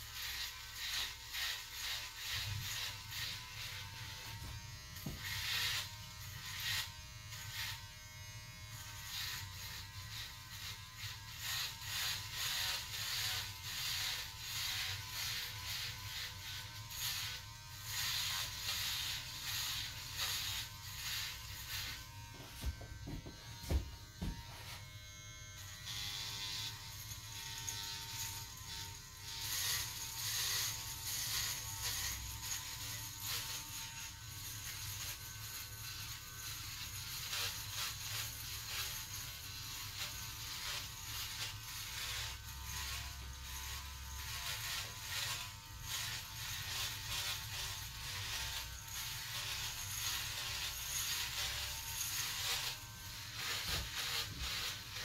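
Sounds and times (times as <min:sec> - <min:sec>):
hair clipper buzzing: 0:00.0 - 0:55.0.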